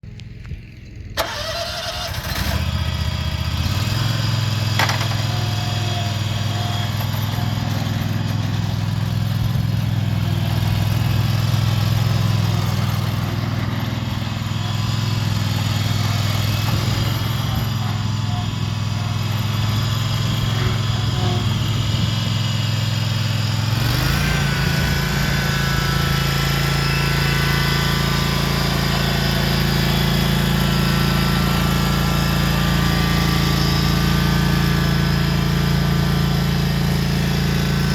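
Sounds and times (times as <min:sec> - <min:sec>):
mower engine running: 0:00.1 - 0:37.9.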